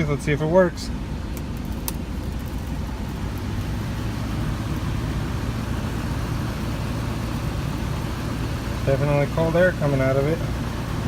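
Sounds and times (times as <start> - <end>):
truck engine idling hum: 0.0 - 11.0.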